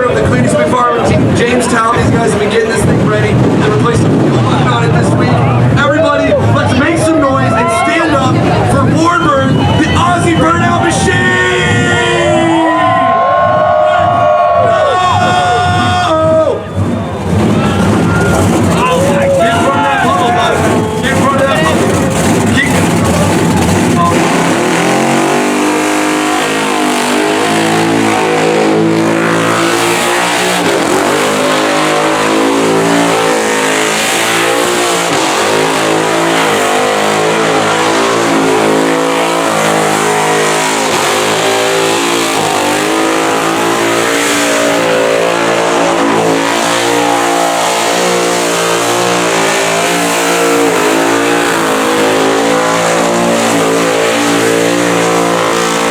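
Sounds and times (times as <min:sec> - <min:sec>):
loud car engine revving: 0:00.0 - 0:55.9.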